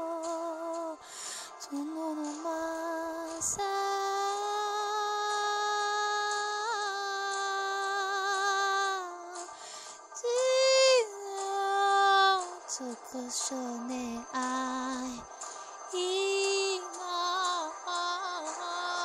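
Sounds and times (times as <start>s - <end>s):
woman singing wordless held notes: 0.0s - 9.6s, 10.2s - 19.0s.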